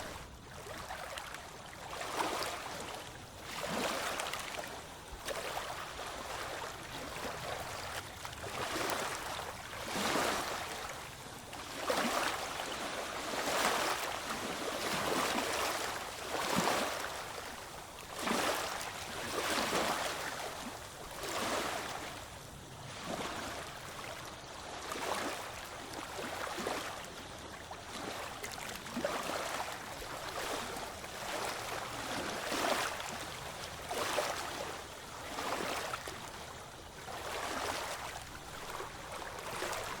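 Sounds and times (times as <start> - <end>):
small waves lapping: 0.0 - 40.0.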